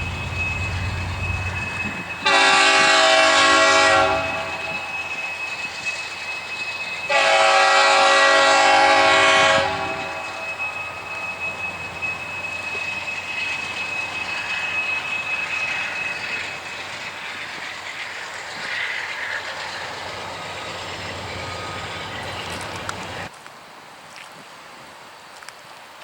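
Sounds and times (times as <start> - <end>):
high-pitched wheel squeal: 0.0 - 23.3
train rolling on rails: 0.0 - 23.4.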